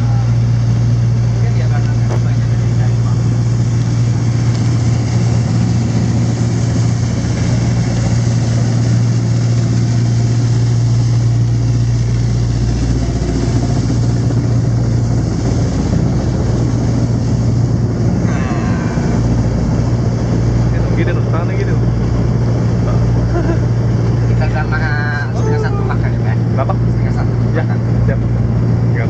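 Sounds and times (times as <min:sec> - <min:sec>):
boat engine droning: 0:00.0 - 0:29.0
wind and water hiss: 0:00.0 - 0:29.0.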